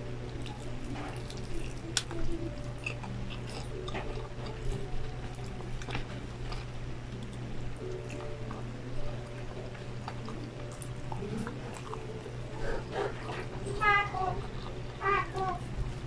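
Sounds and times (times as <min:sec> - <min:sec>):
chewing crispy food: 0:00.0 - 0:16.0
steady low hum: 0:00.0 - 0:16.0.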